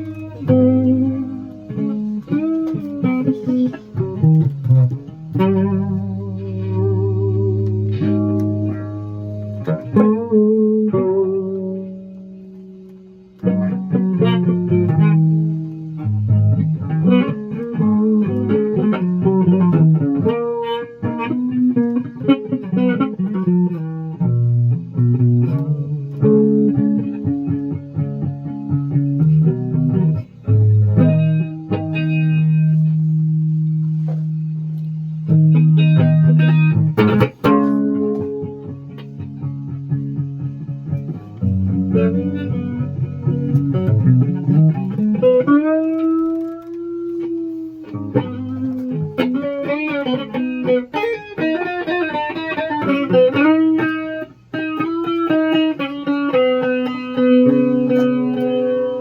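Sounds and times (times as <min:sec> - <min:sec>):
guitar playing: 0:00.0 - 0:59.0.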